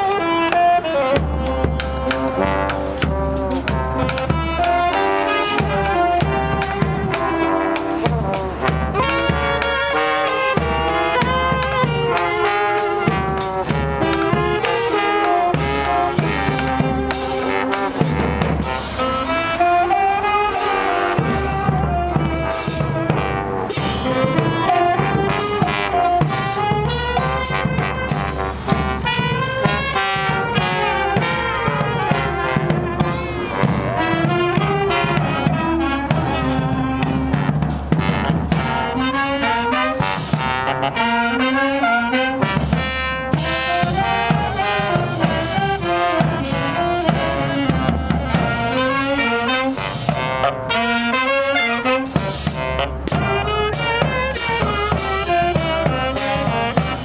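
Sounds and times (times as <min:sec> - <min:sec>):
cymbals: 0:00.0 - 0:57.0
saxophones: 0:00.0 - 0:57.0
trombone: 0:00.0 - 0:57.0
trumpets: 0:00.0 - 0:57.0
marching bass drum: 0:01.0 - 0:39.2, 0:42.4 - 0:51.2, 0:51.9 - 0:57.0.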